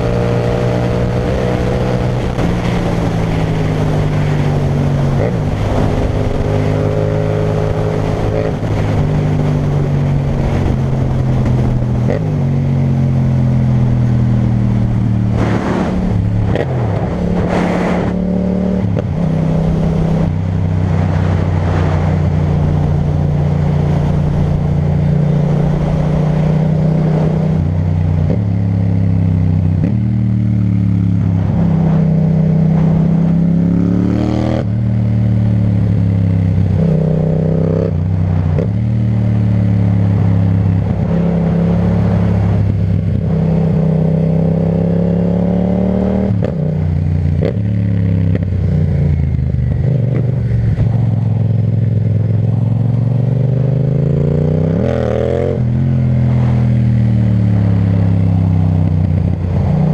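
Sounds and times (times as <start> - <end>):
motorcycle engine while riding: 0.0 - 59.9.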